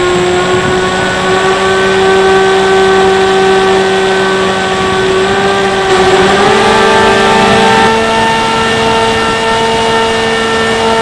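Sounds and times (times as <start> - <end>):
electric motor and propeller whine: 0.0 - 11.0.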